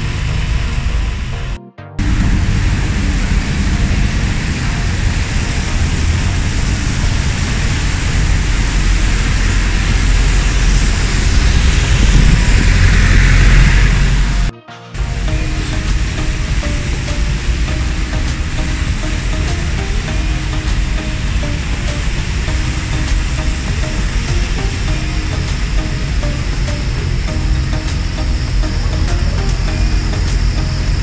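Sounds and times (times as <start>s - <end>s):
traffic on wet street: 0.0s - 1.3s, 2.0s - 14.5s, 15.2s - 31.0s.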